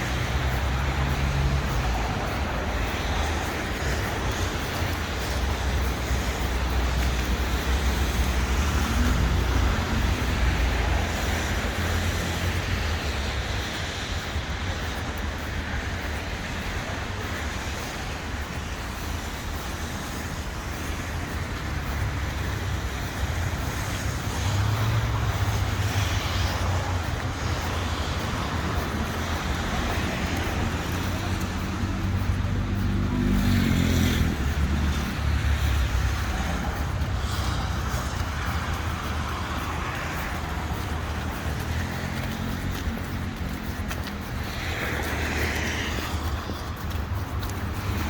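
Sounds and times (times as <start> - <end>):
passing cars rumble: 0.0 - 48.0.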